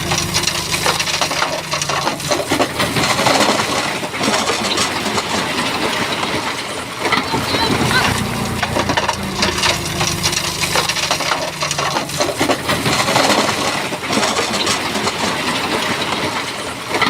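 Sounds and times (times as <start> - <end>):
diesel engine running: 0.0 - 5.7, 6.3 - 14.6.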